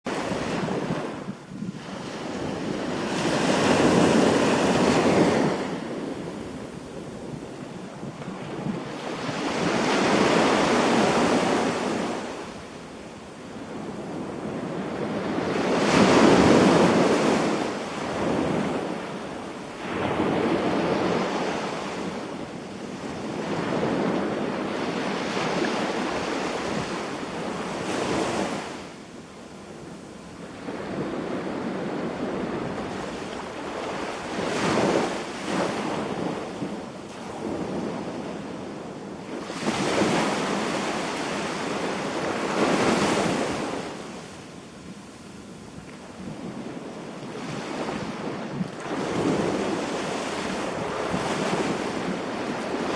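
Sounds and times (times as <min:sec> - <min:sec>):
waves breaking on beach: 0:00.1 - 0:52.9.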